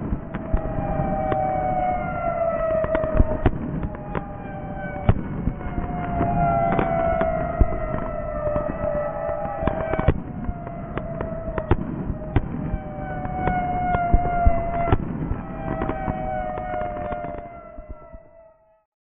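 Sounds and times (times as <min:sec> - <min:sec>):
crackling firework pops: 0:00.0 - 0:01.6, 0:02.7 - 0:04.4, 0:05.0 - 0:18.3.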